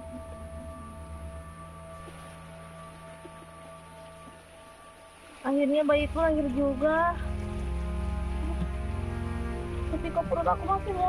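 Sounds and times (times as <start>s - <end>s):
soft held chord: 0.0s - 11.0s.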